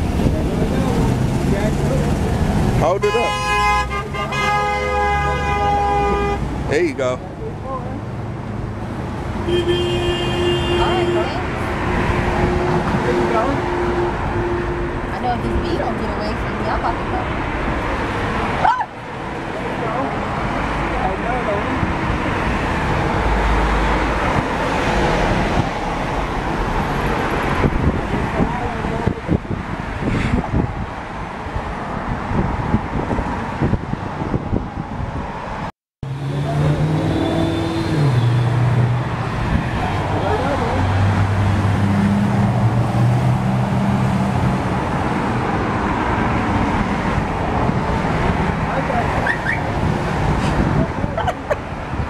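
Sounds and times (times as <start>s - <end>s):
deep traffic rumble: 0.0s - 52.0s
road traffic passing: 0.0s - 52.0s.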